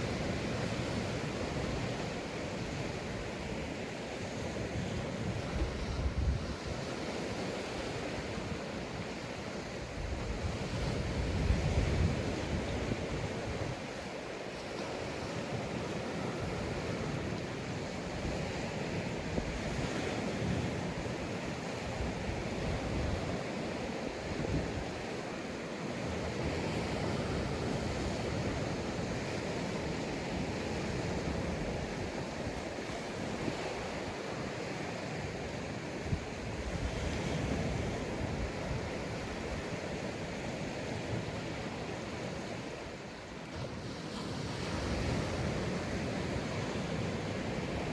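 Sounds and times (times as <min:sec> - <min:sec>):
sea waves breaking on beach: 0:00.0 - 0:47.9.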